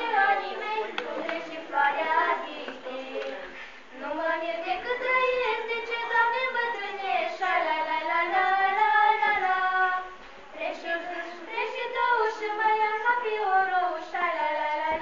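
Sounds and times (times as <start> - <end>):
girls singing: 0.0 - 15.0.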